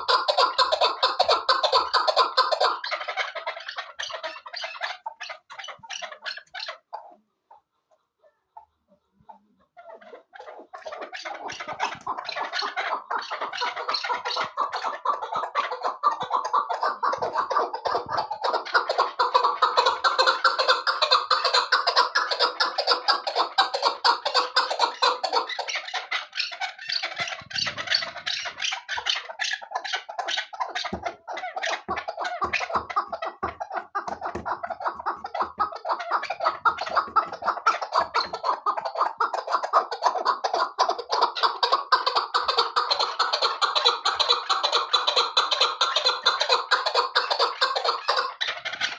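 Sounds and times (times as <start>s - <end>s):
partridge clucking calls: 0.0s - 48.9s.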